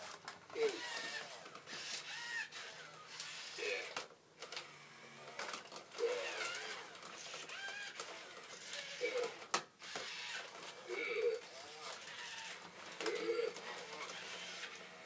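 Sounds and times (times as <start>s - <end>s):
toy robot motors whirring: 0.0s - 15.0s.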